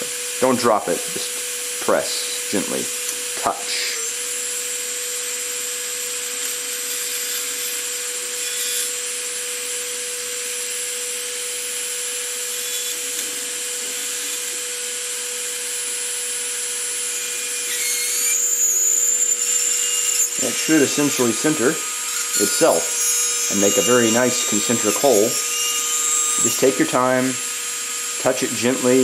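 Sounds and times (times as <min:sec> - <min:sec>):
drill bit scraping hiss: 0:00.0 - 0:29.0
electric motor whine: 0:00.0 - 0:29.0.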